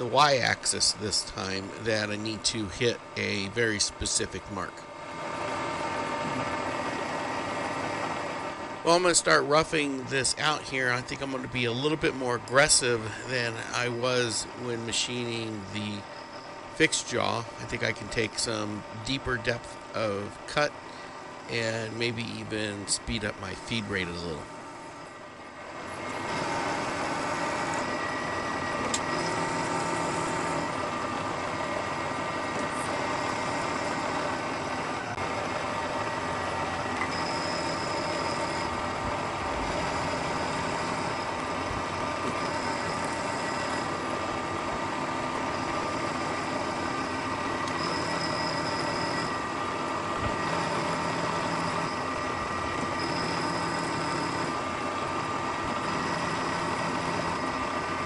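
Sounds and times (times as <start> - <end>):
high machine tone: 0.0 - 58.0
milling machine motor whine: 0.0 - 58.0.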